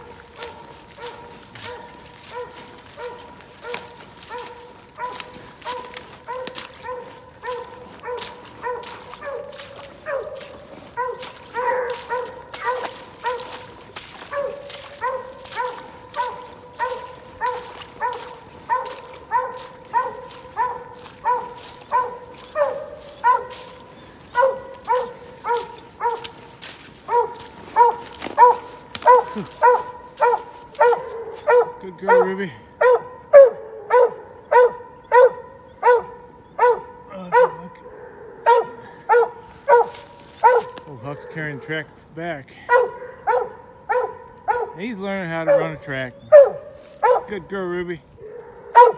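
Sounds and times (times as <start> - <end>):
hounds barking: 0.0 - 48.9.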